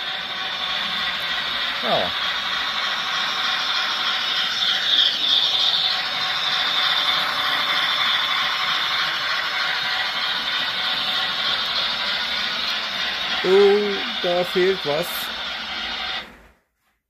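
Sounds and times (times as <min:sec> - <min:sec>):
model train motors whirring: 0:00.0 - 0:16.6
model train wheels on rails: 0:00.0 - 0:16.9.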